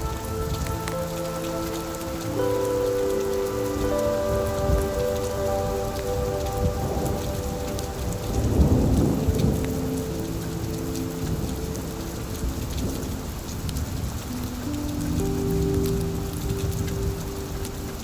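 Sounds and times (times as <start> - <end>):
steady rain: 0.0 - 18.0
thunder rumble: 0.0 - 18.0.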